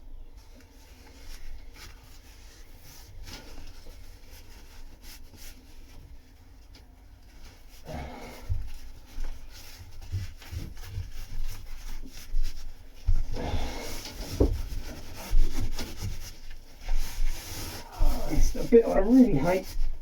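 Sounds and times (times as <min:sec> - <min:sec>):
cloth rubbing and scuffing: 0:00.4 - 0:20.0.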